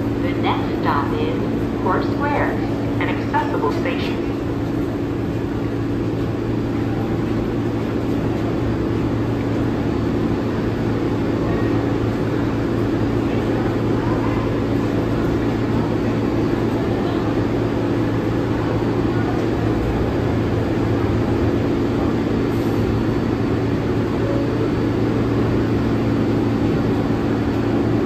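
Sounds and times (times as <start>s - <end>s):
subway train equipment hum: 0.0s - 28.0s.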